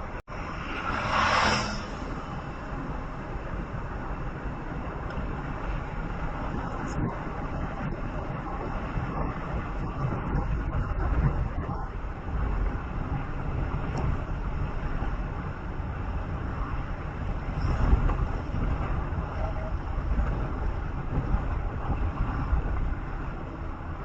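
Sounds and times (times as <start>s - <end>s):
vehicle engine and tyre rumble: 0.0s - 24.0s.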